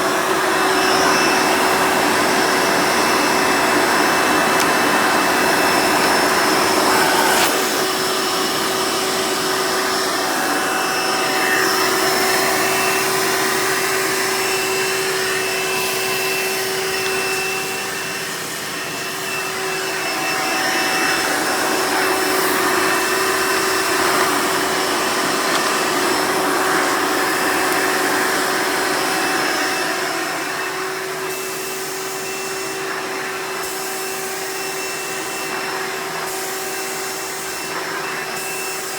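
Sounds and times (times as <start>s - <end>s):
vacuum cleaner motor whirring: 0.0s - 38.9s.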